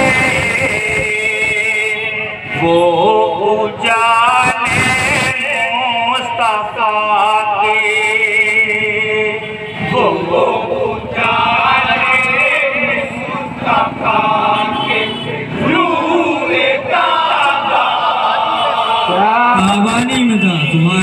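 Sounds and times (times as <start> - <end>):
men singing without instruments: 0.0 - 19.2.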